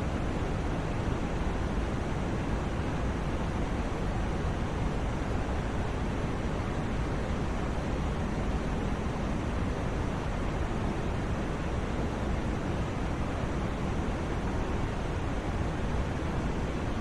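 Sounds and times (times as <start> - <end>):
deep white noise hiss: 0.0 - 17.0.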